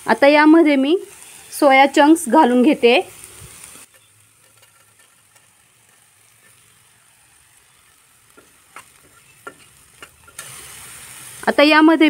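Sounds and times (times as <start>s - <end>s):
faint sizzling in a pan: 0.0s - 12.0s.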